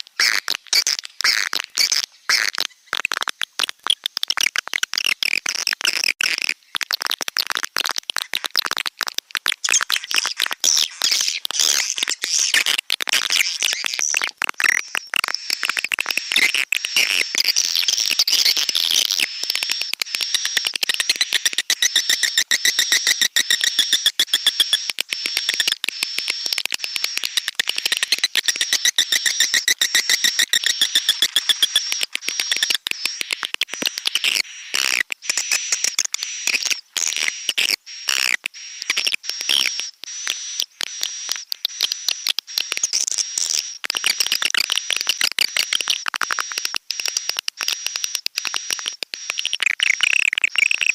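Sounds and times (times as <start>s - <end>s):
swiftlet chittering calls: 0.2s - 7.0s, 9.4s - 50.9s.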